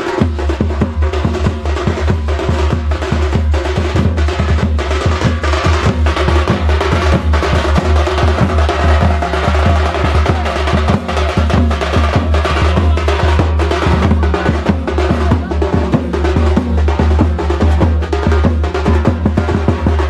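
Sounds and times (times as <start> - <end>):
drums beating fast rhythm: 0.0 - 20.0.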